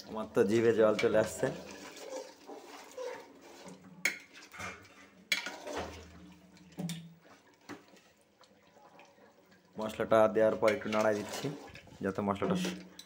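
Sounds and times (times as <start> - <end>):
metal spatula scraping pot: 0.0 - 8.2, 9.9 - 13.0.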